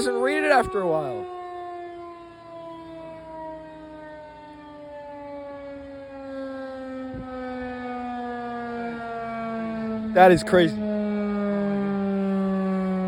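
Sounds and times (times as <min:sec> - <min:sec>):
tornado siren winding down: 0:00.0 - 0:13.0.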